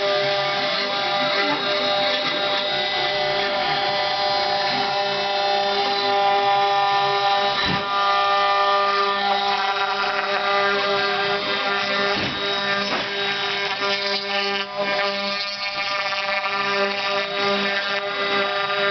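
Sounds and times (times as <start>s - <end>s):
milling machine motor whine: 0.0s - 18.9s.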